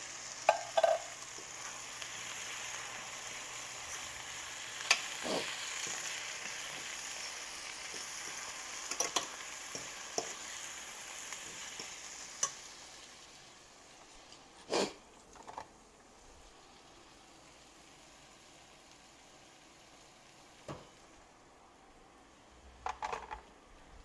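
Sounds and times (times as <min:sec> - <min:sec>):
food sizzling in a skillet: 0:00.0 - 0:15.1, 0:15.8 - 0:21.4.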